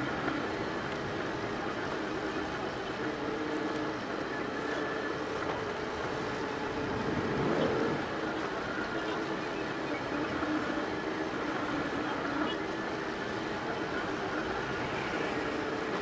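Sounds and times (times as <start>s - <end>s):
steady printer whir: 0.0s - 16.0s.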